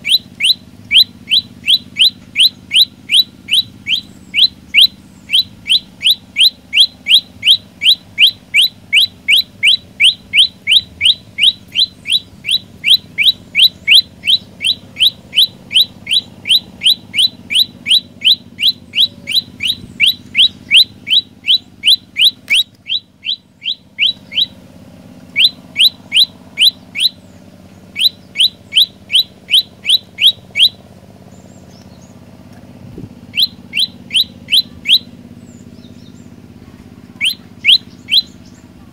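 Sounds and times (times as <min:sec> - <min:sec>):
bird singing sharp rising notes: 0:00.0 - 0:38.9.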